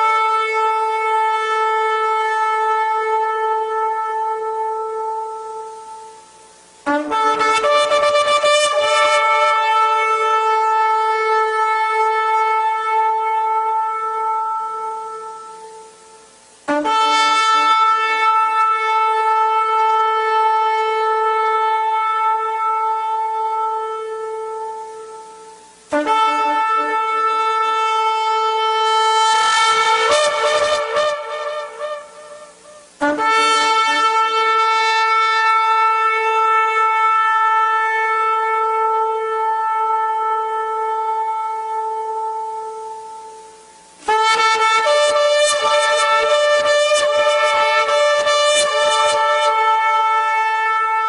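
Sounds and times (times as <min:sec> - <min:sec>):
ram's horn blasts: 0:00.0 - 0:51.0.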